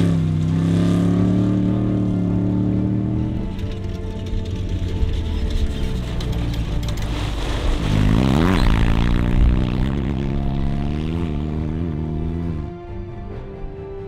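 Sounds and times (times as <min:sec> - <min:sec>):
race buggy engine passing: 0:00.0 - 0:12.7.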